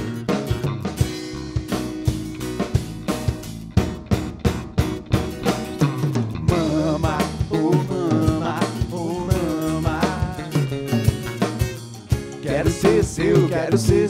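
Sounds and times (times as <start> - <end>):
rock band playing live: 0.0 - 14.0
steady drum beat: 0.0 - 14.0.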